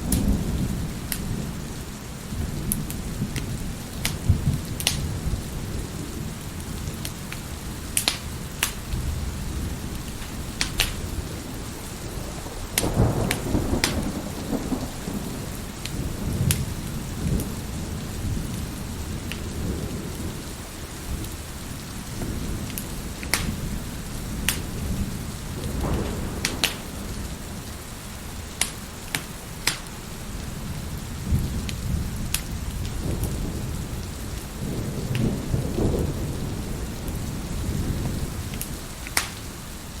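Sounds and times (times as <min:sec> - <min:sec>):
thunder rolling: 0:00.0 - 0:39.6
heavy rain: 0:00.0 - 0:40.0
wood fire crackling and popping: 0:02.2 - 0:05.7, 0:06.4 - 0:12.0, 0:12.7 - 0:17.6, 0:18.4 - 0:20.4, 0:21.2 - 0:37.3, 0:38.0 - 0:40.0.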